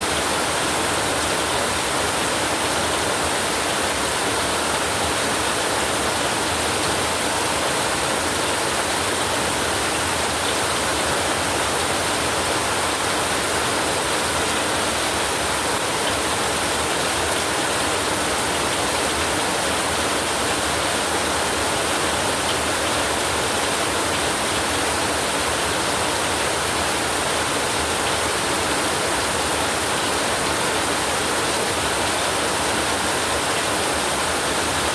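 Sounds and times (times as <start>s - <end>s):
heavy rain on a tin roof: 0.0s - 34.9s.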